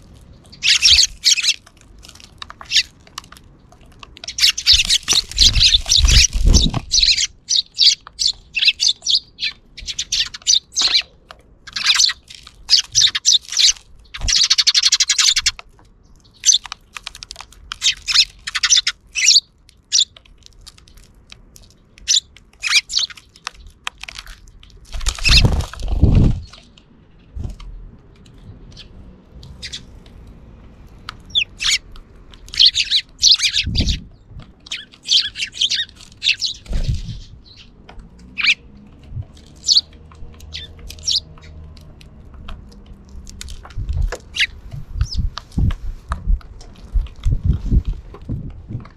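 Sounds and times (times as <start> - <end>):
sparrows chirping: 0.0 - 21.0, 21.8 - 24.0, 24.7 - 45.7.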